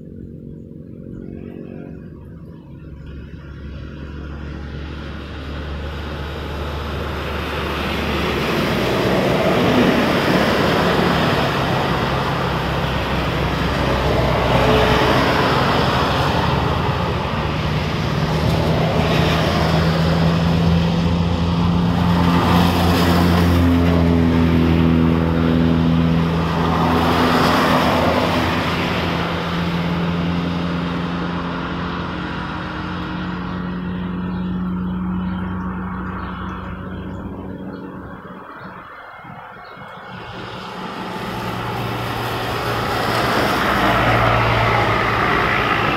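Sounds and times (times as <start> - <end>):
low engine hum: 0.0 - 45.9.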